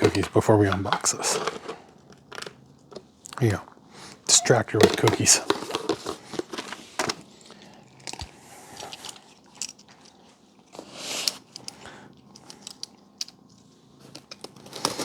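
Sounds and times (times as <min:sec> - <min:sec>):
cookie crunching and chewing: 0:00.0 - 0:15.0.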